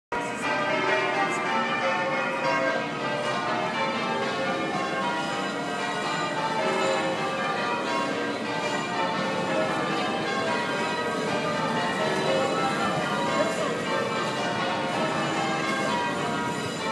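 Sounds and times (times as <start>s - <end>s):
church bells ringing changes: 0.1s - 16.9s.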